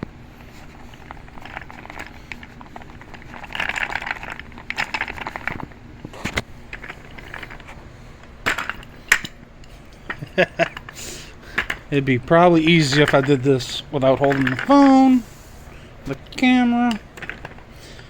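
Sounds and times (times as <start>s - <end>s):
chair caster wheels clattering: 0.0s - 15.3s, 16.1s - 18.0s.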